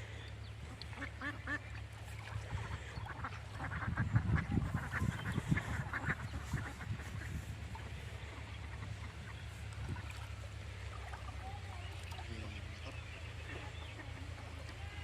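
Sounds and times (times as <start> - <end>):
steady low rumble: 0.0 - 14.9
birds calling: 0.0 - 15.0.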